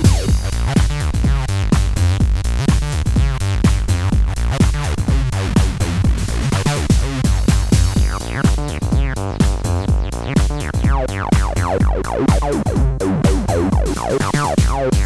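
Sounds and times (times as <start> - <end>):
distorted synthesizer bassline: 0.0 - 15.0
drum machine beat: 0.0 - 15.0.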